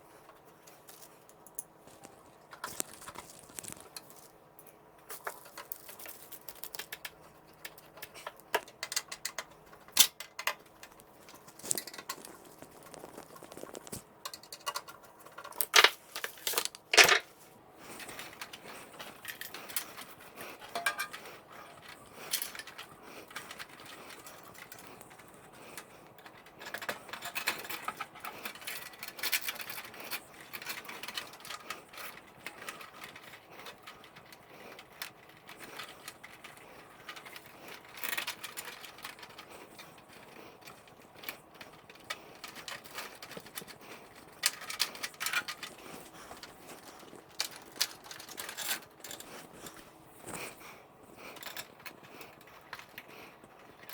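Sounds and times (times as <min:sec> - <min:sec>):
hands handling computer cables: 0:00.1 - 0:53.9.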